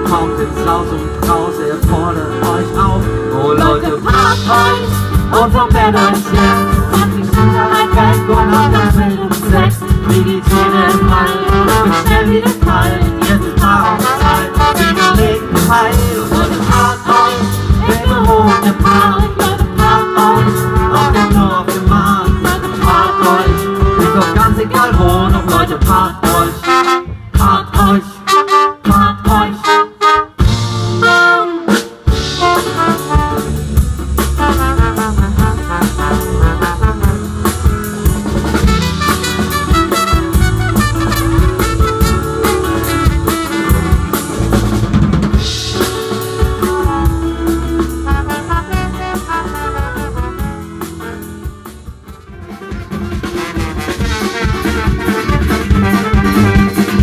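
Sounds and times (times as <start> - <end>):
brass band playing: 0.0 - 57.0
drum kit: 0.0 - 57.0.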